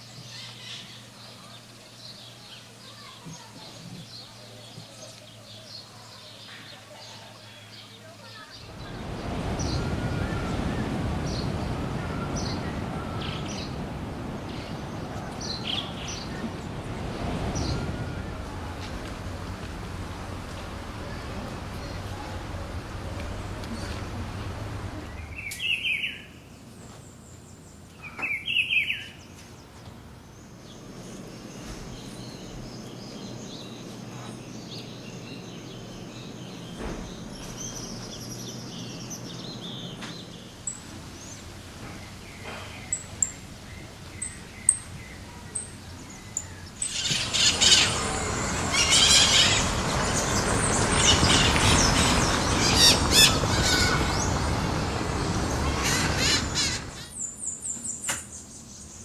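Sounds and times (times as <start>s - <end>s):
birds chirping: 0.0s - 59.0s
noisy outdoor background: 0.0s - 59.0s.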